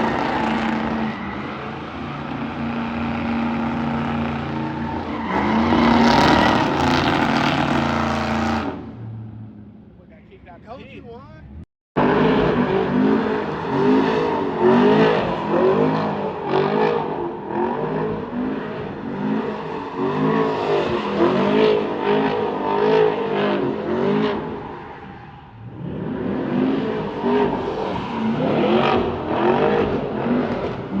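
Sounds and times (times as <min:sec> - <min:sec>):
car engine revving: 0:00.0 - 0:10.6, 0:11.3 - 0:24.8, 0:25.5 - 0:31.0.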